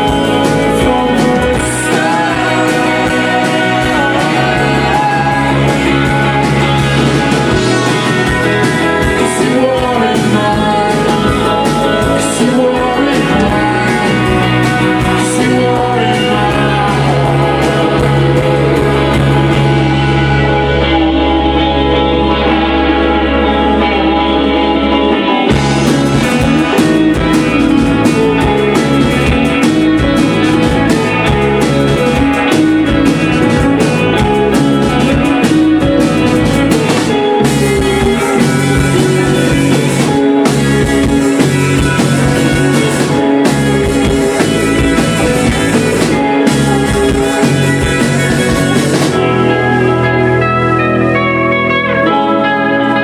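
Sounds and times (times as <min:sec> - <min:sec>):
held low bass note: 0:00.0 - 0:51.6
rock band playing live: 0:00.0 - 0:53.0.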